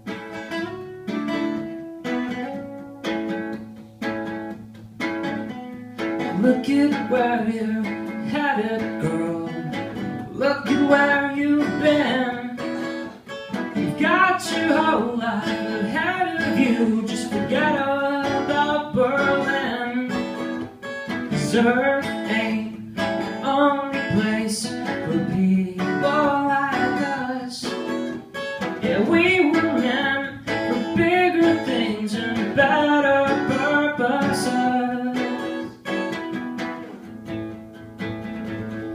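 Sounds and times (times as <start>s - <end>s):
acoustic guitars playing: 0.0s - 38.9s.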